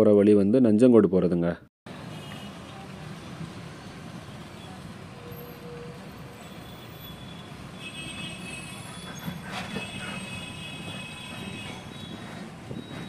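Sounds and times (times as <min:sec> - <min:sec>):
bus engine and road rumble: 0:01.9 - 0:13.0.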